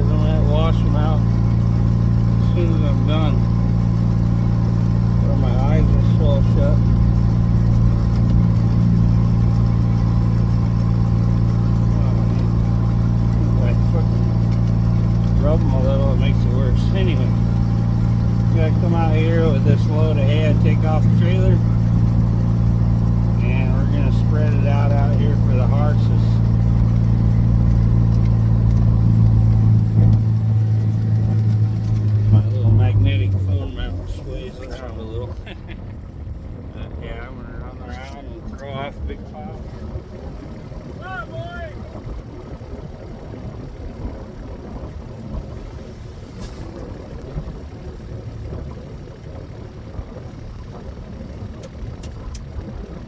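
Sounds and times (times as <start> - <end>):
utility vehicle engine humming: 0.0 - 43.2
wind buffeting microphone: 0.0 - 53.0.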